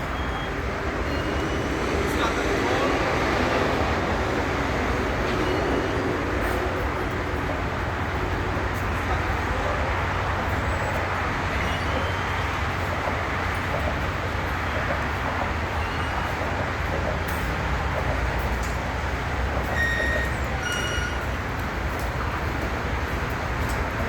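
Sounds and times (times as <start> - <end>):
train rumbling and rushing: 0.0 - 24.0.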